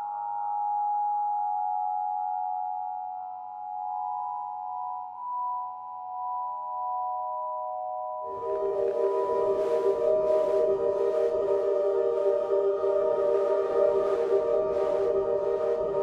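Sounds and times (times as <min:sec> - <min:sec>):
sustained high tone drone: 0:00.0 - 0:16.0.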